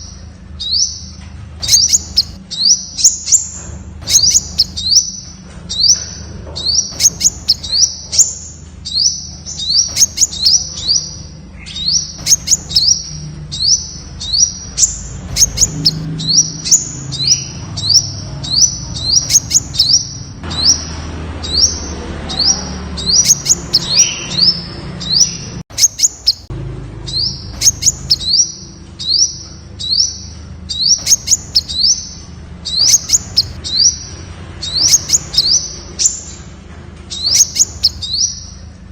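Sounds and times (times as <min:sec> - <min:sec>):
sunbird chirping: 0:00.0 - 0:38.7
sharp bird clicks: 0:00.6 - 0:20.9, 0:23.0 - 0:26.5, 0:27.2 - 0:36.3, 0:37.0 - 0:38.6.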